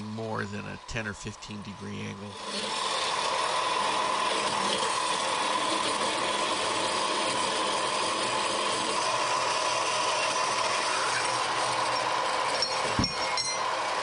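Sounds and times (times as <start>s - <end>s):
bandsaw cutting metal pipe: 0.0s - 14.0s.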